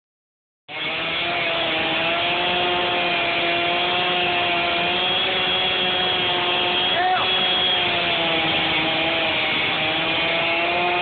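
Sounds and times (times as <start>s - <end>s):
chainsaw cutting tree trunk: 0.7s - 11.0s.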